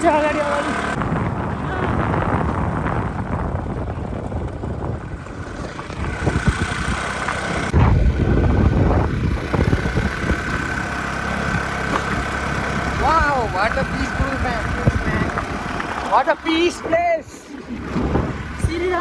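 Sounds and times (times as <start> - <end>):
scooter engine running: 0.0 - 19.0
wind noise on microphone: 0.0 - 19.0.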